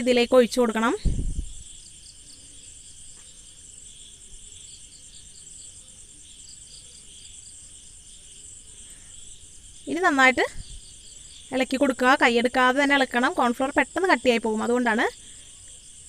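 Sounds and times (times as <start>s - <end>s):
high insect chirring: 0.0s - 16.0s.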